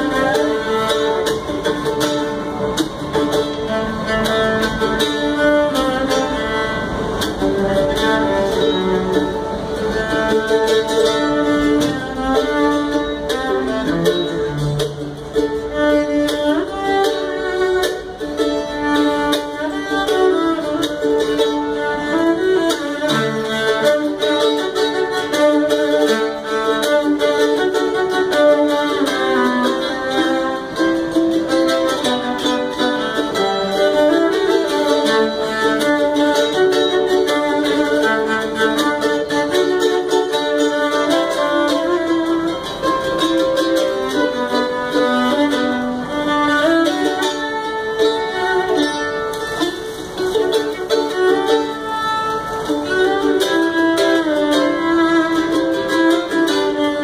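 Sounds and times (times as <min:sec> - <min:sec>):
bowed cello: 0:00.0 - 0:57.0
mandolin played with a pick: 0:00.0 - 0:57.0.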